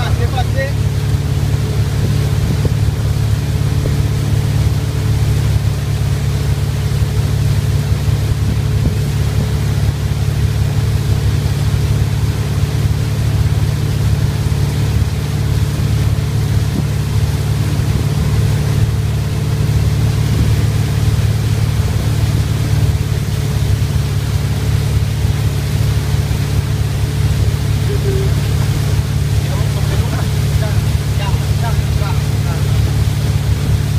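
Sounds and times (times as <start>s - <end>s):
churning wake water: 0.0s - 33.9s
motorboat engine drone: 0.0s - 33.9s.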